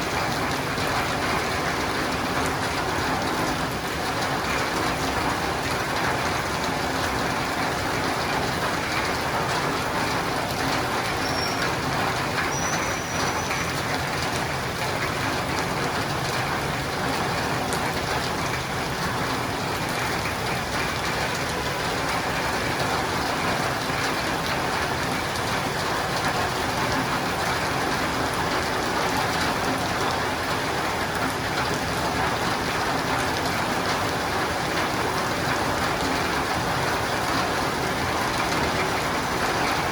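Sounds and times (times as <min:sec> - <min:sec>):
rain on a roof and windows: 0:00.0 - 0:39.9.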